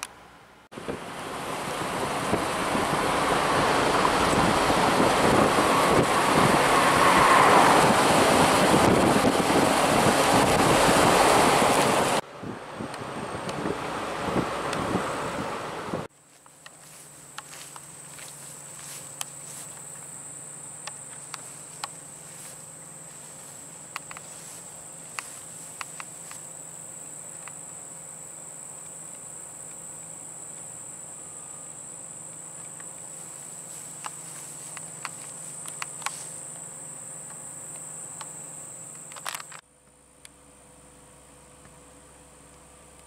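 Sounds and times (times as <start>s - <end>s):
insects droning: 0.8s - 12.2s, 16.1s - 43.0s.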